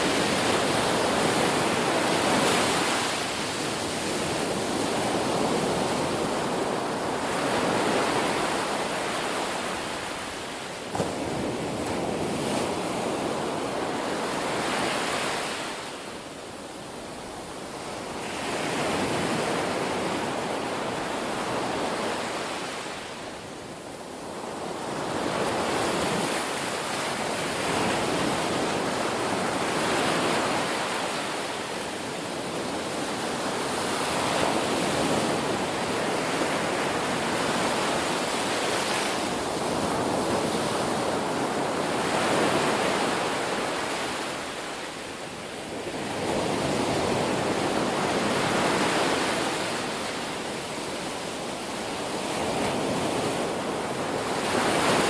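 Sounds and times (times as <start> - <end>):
ocean waves breaking: 0.0 - 16.0, 24.2 - 55.0.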